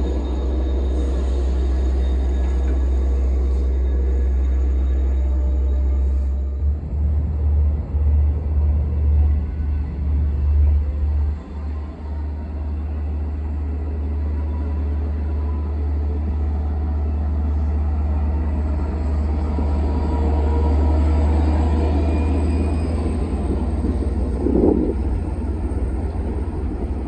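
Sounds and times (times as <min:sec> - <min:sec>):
locomotive engine rumble: 0:00.0 - 0:27.0
train wheels on rails: 0:00.0 - 0:27.0.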